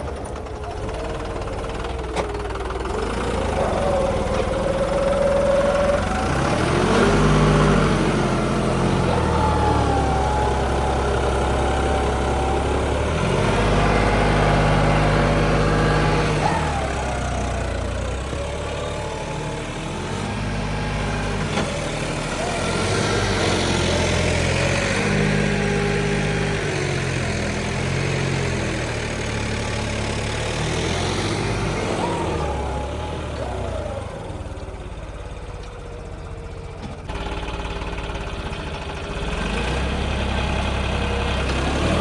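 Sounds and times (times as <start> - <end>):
tractor diesel engines: 0.0 - 42.0.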